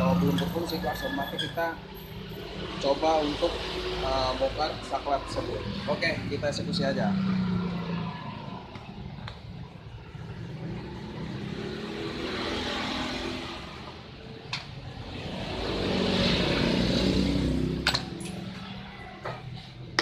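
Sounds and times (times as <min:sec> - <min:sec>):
motor vehicles passing: 0:00.0 - 0:20.0.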